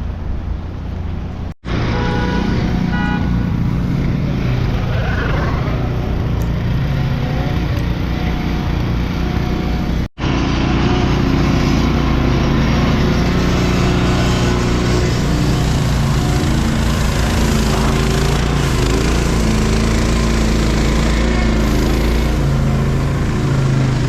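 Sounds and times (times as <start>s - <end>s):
city street noise: 0.0s - 24.0s
engine running close by: 0.0s - 24.0s.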